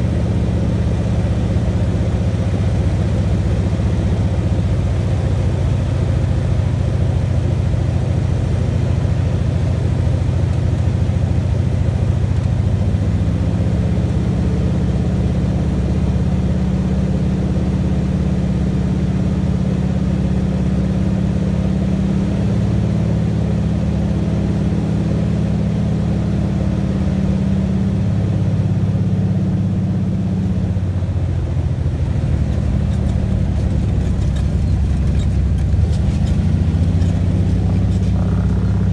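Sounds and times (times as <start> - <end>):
propeller engine droning: 0.0 - 38.9.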